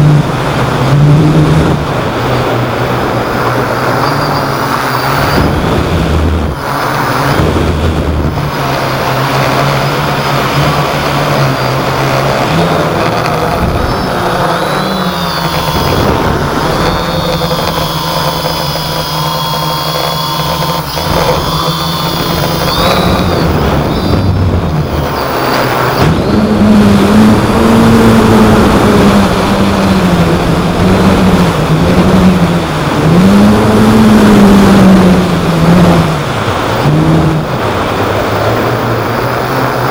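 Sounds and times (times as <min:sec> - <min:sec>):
drone propellers buzzing: 0:00.0 - 0:39.9
wind rush: 0:00.0 - 0:39.9.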